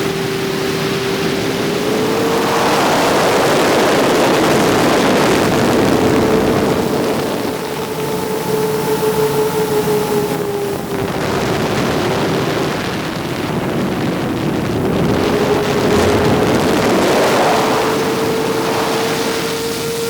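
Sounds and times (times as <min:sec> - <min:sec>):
drone motors whirring: 0:00.0 - 0:12.6, 0:13.8 - 0:20.0
wind noise: 0:00.0 - 0:20.0.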